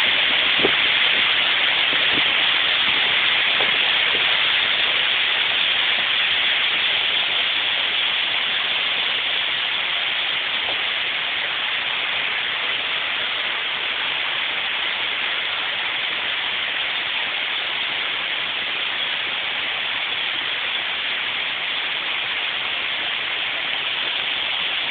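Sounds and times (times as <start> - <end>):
water rushing down rocks: 0.0 - 24.9.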